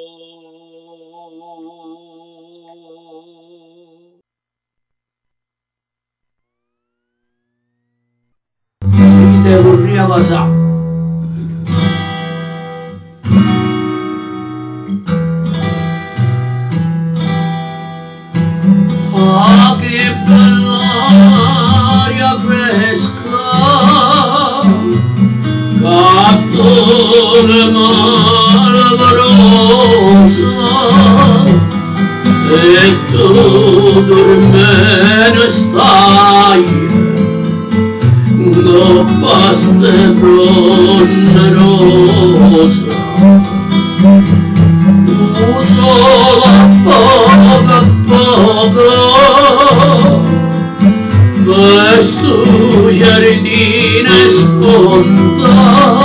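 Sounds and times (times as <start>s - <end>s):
guitar-led background music: 8.8s - 56.0s.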